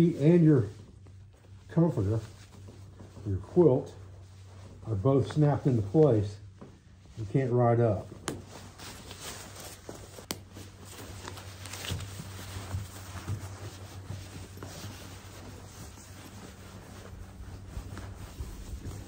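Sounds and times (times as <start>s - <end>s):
fabric rustling and rubbing: 0.0s - 19.0s
low steady hum: 0.0s - 19.0s.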